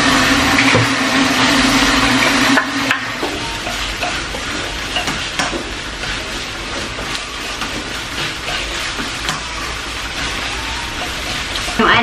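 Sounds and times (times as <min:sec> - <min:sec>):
onions sizzling in oil: 0:00.0 - 0:12.0
spatula scraping and tapping pan: 0:02.2 - 0:12.0.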